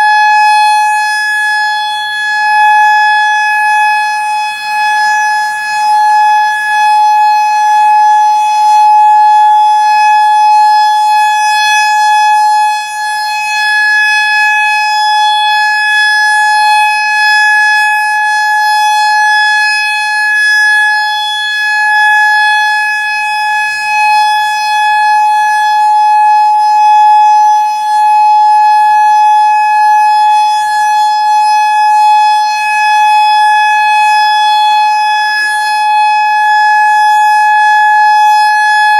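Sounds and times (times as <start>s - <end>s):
steady warning siren tone: 0.0s - 38.9s.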